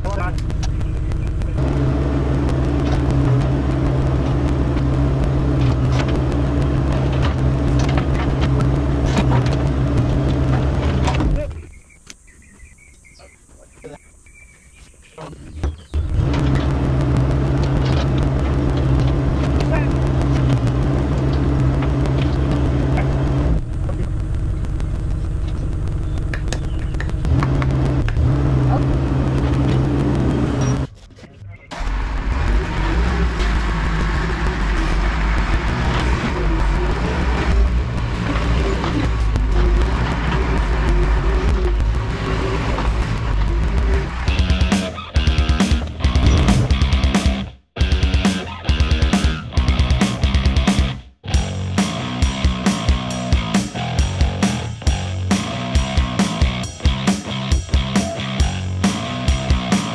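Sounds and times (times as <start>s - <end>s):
excavator engine running: 0.0s - 13.1s, 15.2s - 59.9s.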